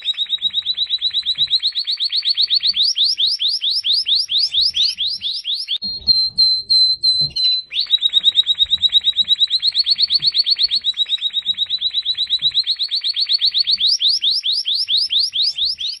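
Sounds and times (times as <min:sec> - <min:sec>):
goldfinch singing trill: 0:00.0 - 0:16.0.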